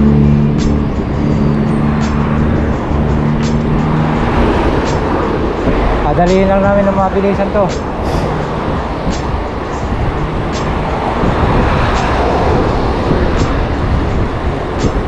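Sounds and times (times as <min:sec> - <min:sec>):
bicycle road rumble: 0:00.0 - 0:15.0
wind rushing over microphone: 0:00.0 - 0:15.0.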